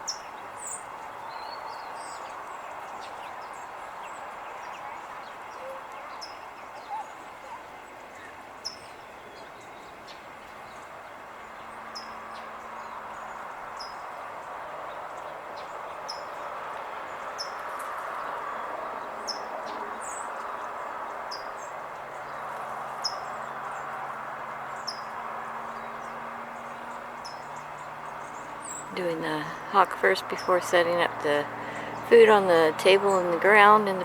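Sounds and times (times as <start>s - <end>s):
outdoor background noise: 0.0s - 34.0s.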